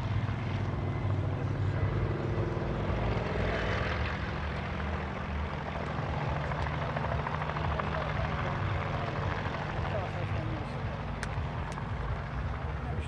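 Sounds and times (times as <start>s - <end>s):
helicopter droning: 0.0s - 13.0s.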